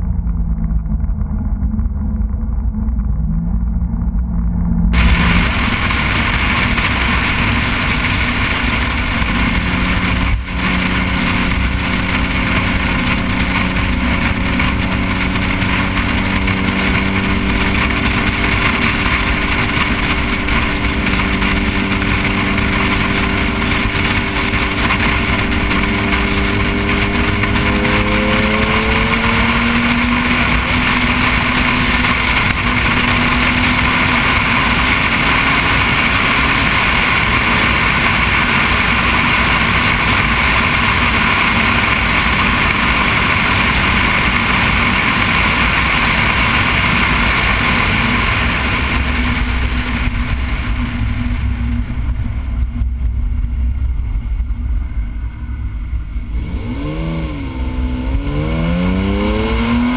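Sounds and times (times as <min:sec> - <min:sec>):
car engine cruising: 0:00.0 - 0:59.9
heavy wind noise: 0:00.0 - 0:59.9
road noise: 0:00.0 - 0:59.9.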